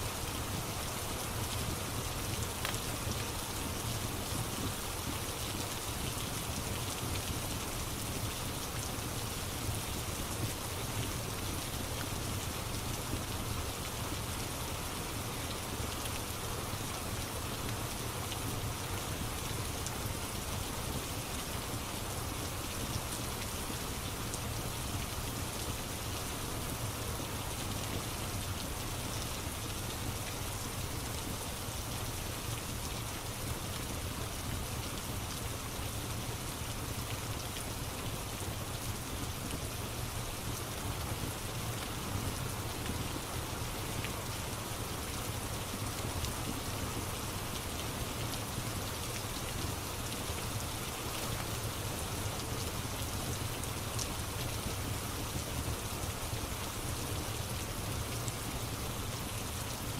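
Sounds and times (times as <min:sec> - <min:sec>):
rain hissing on a surface: 0:00.0 - 0:59.9.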